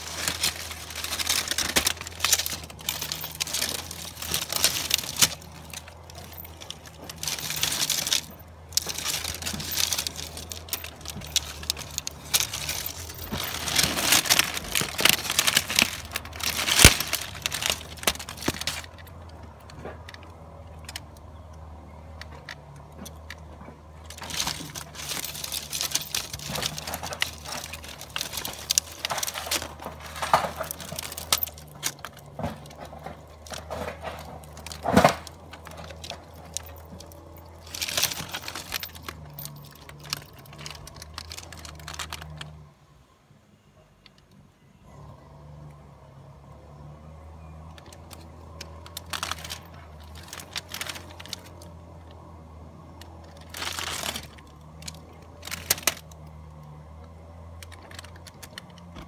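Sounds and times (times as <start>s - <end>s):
rustling handling noise: 0.0s - 42.7s, 45.0s - 59.0s.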